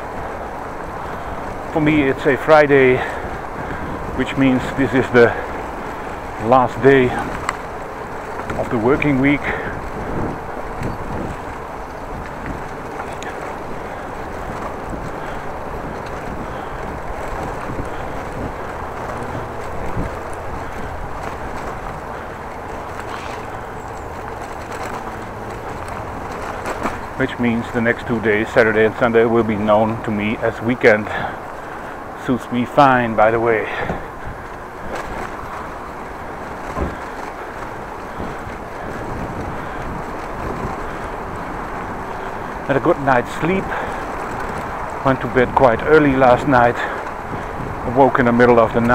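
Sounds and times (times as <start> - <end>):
bicycle road noise: 0.0 - 48.9
wind rush on microphone: 0.0 - 48.9.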